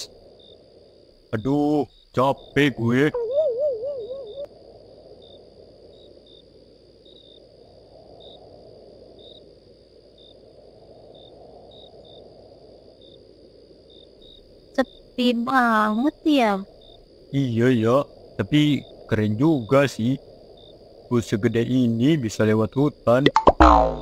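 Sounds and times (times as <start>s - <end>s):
crickets chirping: 0.0s - 24.0s
high insect drone: 0.0s - 24.0s.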